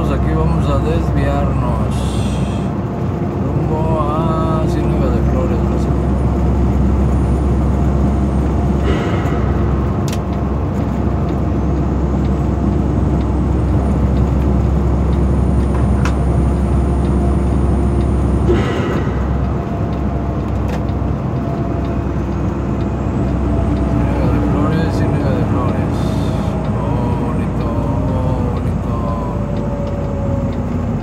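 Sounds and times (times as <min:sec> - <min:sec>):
truck engine and road drone: 0:00.0 - 0:31.0.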